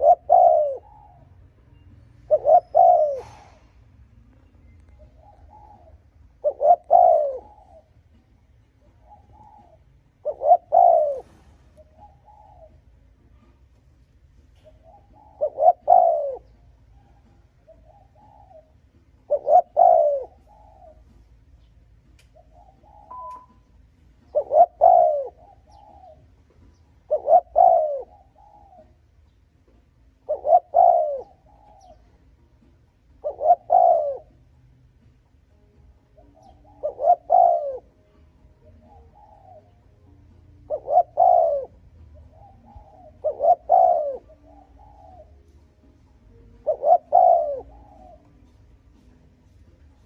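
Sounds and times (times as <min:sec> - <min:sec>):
dove cooing: 0:00.0 - 0:03.8, 0:04.9 - 0:21.7, 0:22.3 - 0:50.0.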